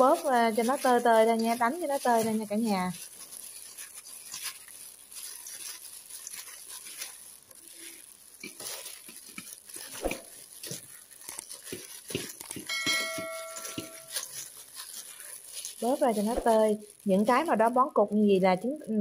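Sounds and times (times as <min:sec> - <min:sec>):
rice flakes crackling and rustling: 0:00.0 - 0:19.0.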